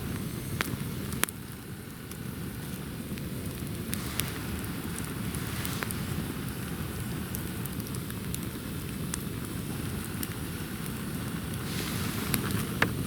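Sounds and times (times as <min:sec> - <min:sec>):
campfire crackling: 0:00.0 - 0:13.0
fire popping and snapping: 0:00.0 - 0:13.0.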